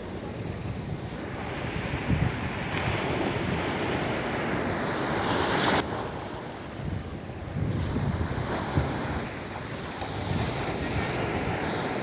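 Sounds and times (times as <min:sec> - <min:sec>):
waves breaking on beach: 0:00.0 - 0:12.0
wind on microphone: 0:00.0 - 0:12.0.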